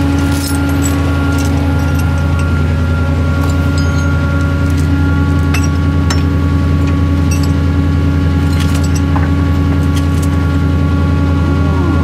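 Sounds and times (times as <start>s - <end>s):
tow chain clinking: 0.0s - 10.7s
truck engine idling: 0.0s - 12.0s.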